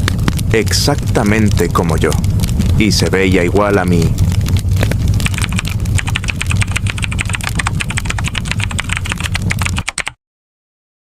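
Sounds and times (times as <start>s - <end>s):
low rumble: 0.0s - 9.9s
campfire crackling: 0.0s - 10.1s.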